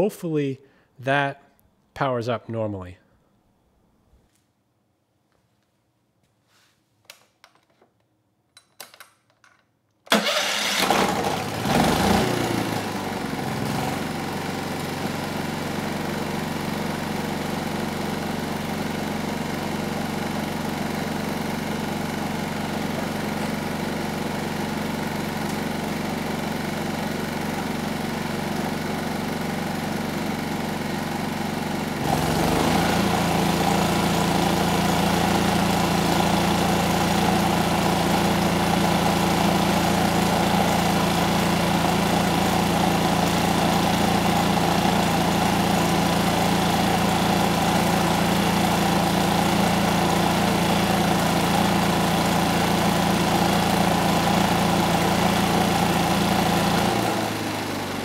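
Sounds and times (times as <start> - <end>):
generator engine running: 10.1 - 58.0.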